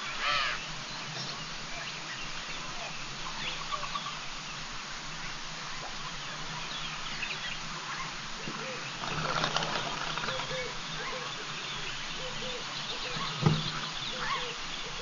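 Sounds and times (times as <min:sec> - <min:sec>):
faint bird calls: 0:00.0 - 0:04.3, 0:05.2 - 0:15.0
outdoor hiss: 0:00.0 - 0:15.0.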